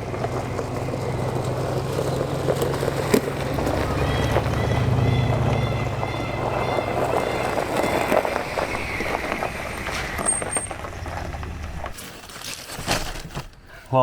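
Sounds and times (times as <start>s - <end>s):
vehicle engine hum: 0.0s - 12.0s
road noise and rattle: 0.0s - 14.0s.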